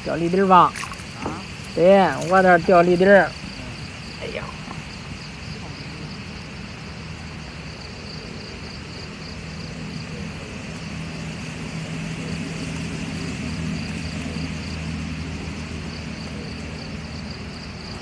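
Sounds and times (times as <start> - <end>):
distant engine droning: 0.0 - 18.0
high-pitched insect chirping: 0.0 - 18.0.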